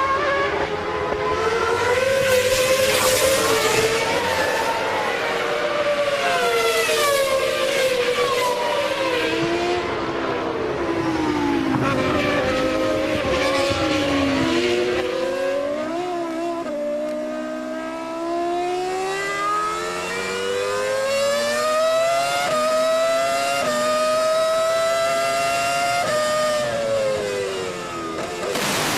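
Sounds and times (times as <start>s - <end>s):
racing car engines: 0.0s - 28.9s.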